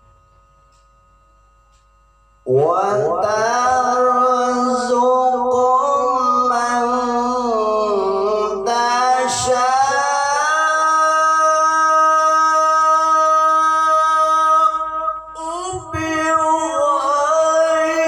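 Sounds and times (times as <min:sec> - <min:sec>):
man reciting melodically: 0:02.5 - 0:18.0.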